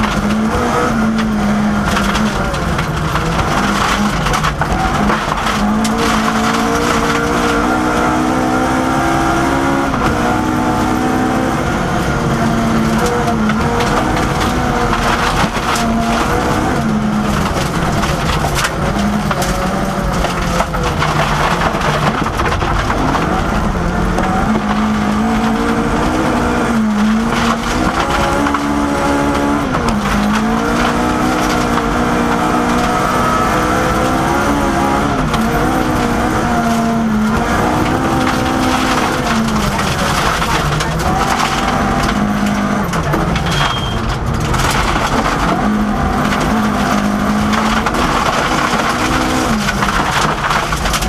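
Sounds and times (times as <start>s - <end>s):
rally car engine at high revs: 0.0s - 51.0s
tyres rushing on loose gravel: 0.0s - 51.0s.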